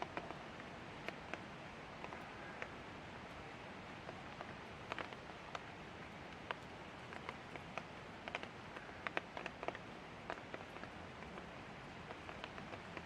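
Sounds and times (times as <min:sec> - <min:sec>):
raindrops tapping on a surface: 0:00.0 - 0:02.8, 0:04.0 - 0:13.0
light rain hiss: 0:00.0 - 0:13.0.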